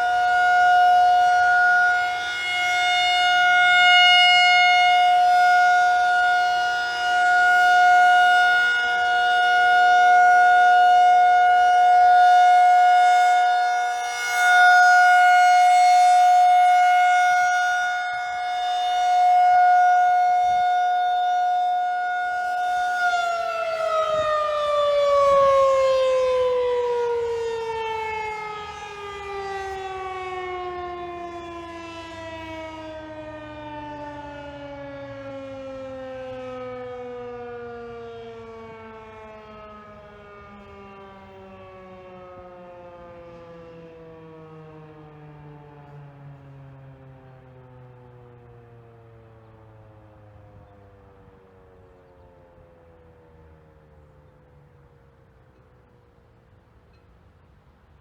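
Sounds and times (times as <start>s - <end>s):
siren winding down: 0.0s - 54.1s
tornado siren steady tone: 0.0s - 58.0s.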